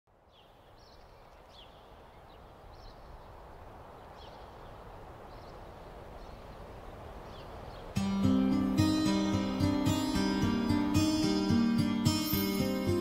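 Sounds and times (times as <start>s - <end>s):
small birds chirping: 0.1s - 13.0s
steady outdoor hiss: 0.1s - 13.0s.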